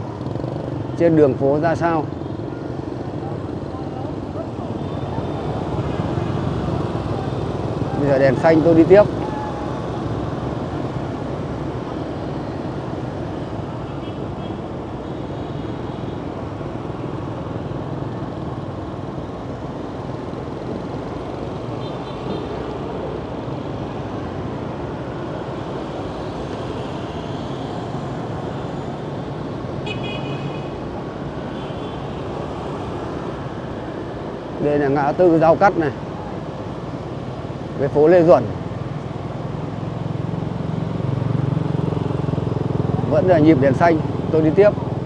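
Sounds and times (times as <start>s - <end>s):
traffic road noise: 0.0s - 45.0s.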